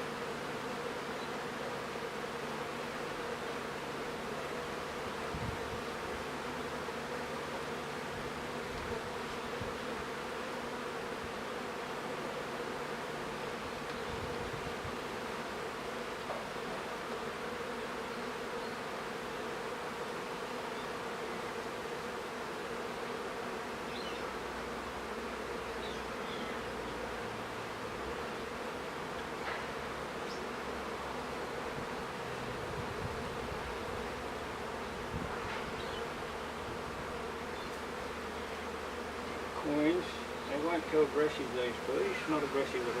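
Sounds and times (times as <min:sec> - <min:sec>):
honeybees buzzing: 0:00.0 - 0:43.0.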